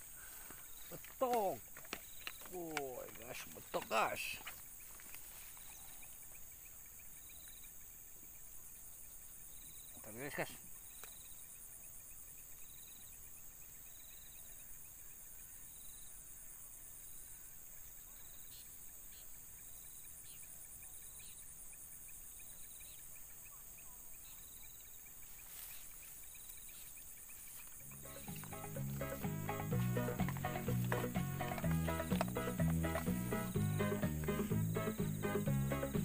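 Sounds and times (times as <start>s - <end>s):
insect chirping trill: 0.0s - 36.0s.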